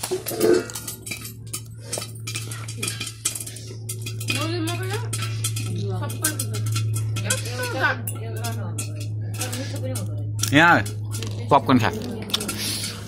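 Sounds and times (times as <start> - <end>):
rapid light clicks and clinks: 0.0 - 13.0
steady low hum: 0.0 - 13.0.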